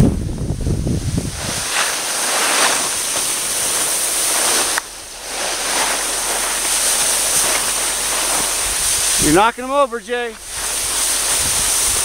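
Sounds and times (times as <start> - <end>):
skis hissing and scraping on snow: 0.8 - 12.0.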